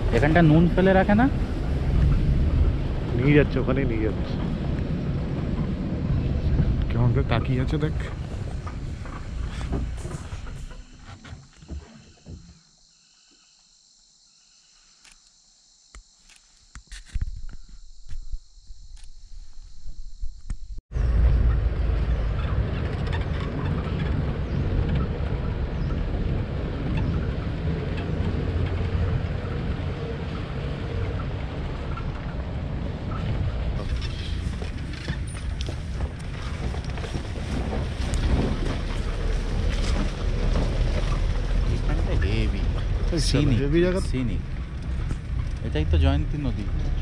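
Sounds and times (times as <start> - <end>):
wind noise: 0.0 - 12.5, 16.7 - 47.0
vehicle engine rumble: 0.0 - 12.7, 16.2 - 47.0.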